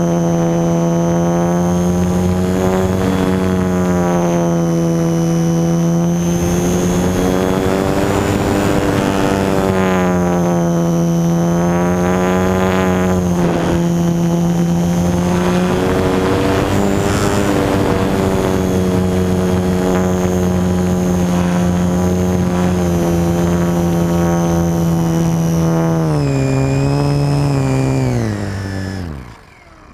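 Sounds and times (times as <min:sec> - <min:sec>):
model airplane motor whine: 0:00.0 - 0:29.9.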